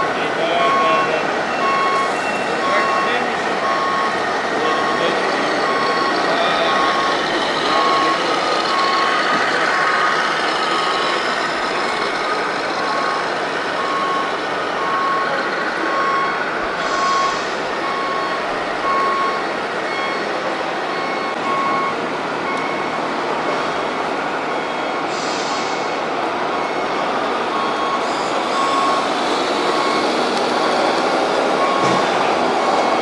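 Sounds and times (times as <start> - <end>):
background hubbub: 0.0 - 33.0
truck reversing beeper: 0.0 - 33.0.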